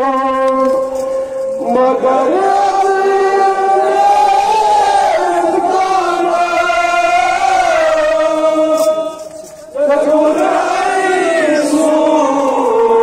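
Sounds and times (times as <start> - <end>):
voices chanting together: 1.6 - 13.0.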